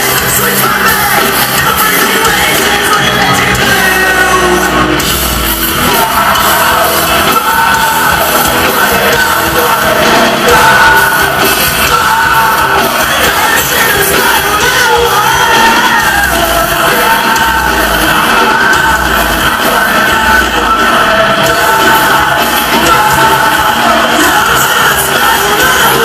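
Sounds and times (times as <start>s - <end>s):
rock band playing live: 0.0s - 26.0s
singer's vocals: 0.0s - 26.0s.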